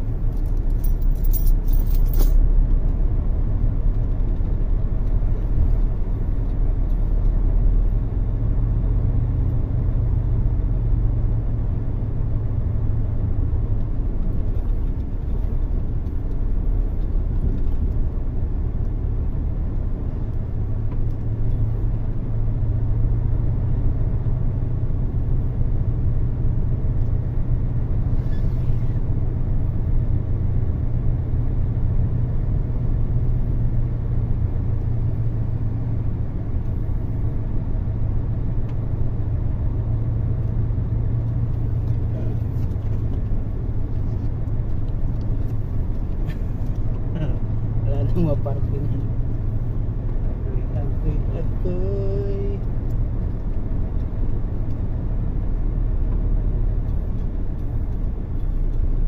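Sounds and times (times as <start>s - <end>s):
truck diesel engine rumbling: 0.0s - 59.0s.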